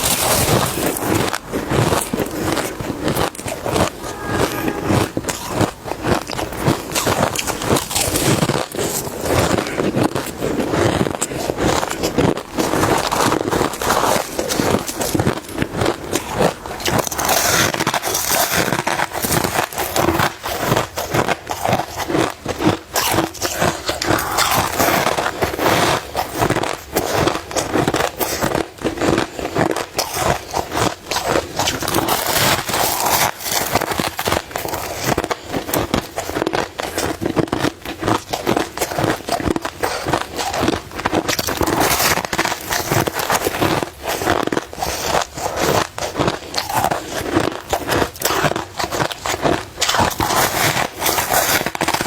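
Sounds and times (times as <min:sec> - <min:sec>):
crushed ice being chewed: 0:00.0 - 0:52.0.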